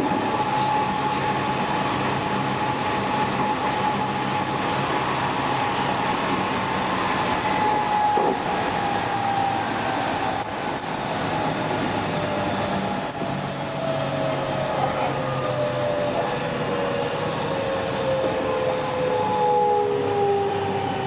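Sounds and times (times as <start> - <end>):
wheel and rail rumble: 0.0 - 19.5.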